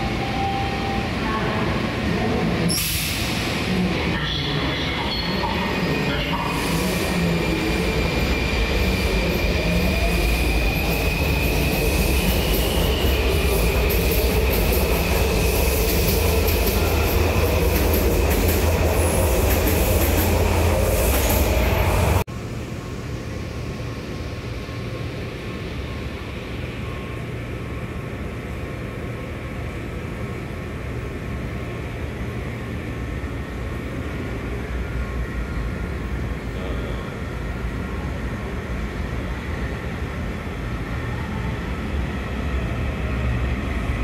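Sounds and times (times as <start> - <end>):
subway train rumble: 0.0 - 44.0.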